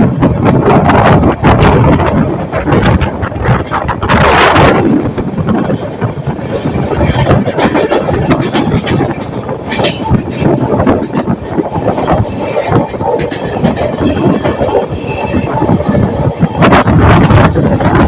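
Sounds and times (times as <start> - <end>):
rushing wind: 0.0 - 18.0
train wheels clattering over rails: 0.0 - 18.0.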